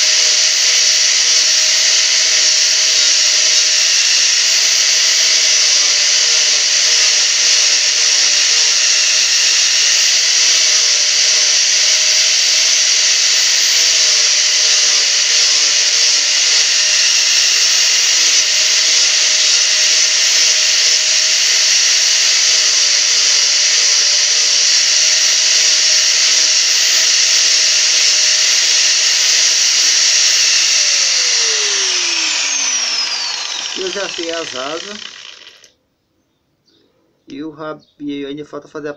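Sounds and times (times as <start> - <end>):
angle grinder grinding wood: 0.0 - 35.7.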